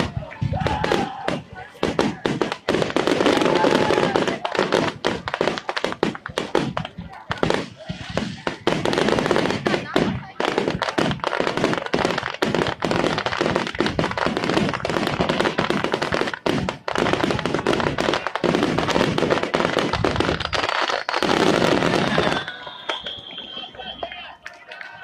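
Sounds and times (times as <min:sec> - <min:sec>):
firework booms and crackling: 0:00.0 - 0:25.0.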